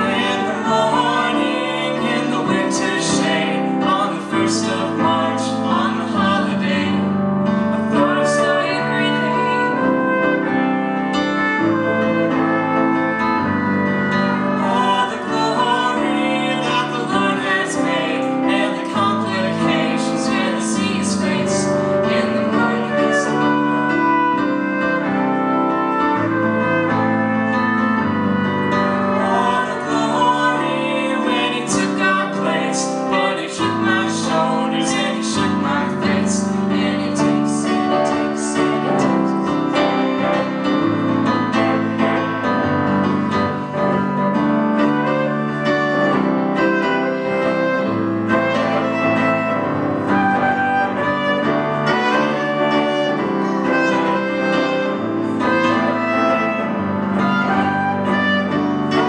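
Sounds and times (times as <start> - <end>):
acoustic piano and strings music: 0.0 - 59.0.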